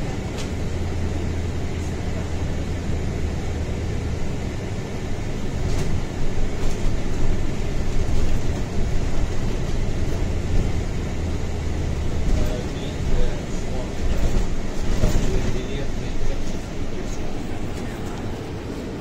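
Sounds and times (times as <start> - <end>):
vehicle running hum and rumble: 0.0 - 19.0.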